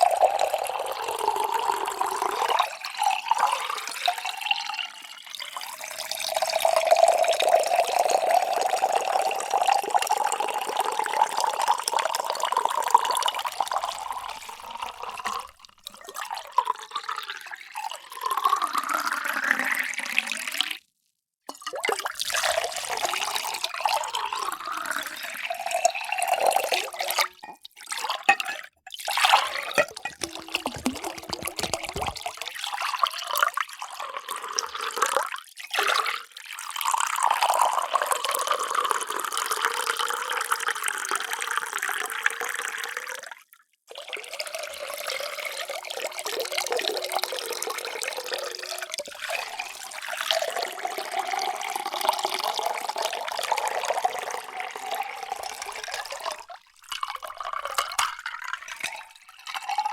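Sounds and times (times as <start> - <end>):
water pouring into vessel: 0.0 - 20.8, 21.5 - 59.9.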